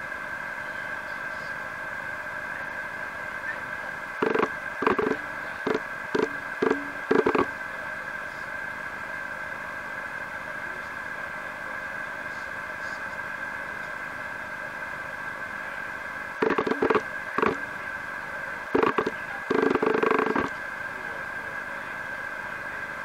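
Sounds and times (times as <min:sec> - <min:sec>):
electrical hiss with faint whine: 0:00.0 - 0:23.0.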